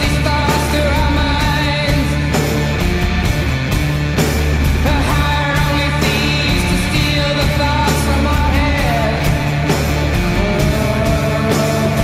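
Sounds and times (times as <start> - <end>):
heavy bass line: 0.0 - 12.0
rock music with singing: 0.0 - 12.0.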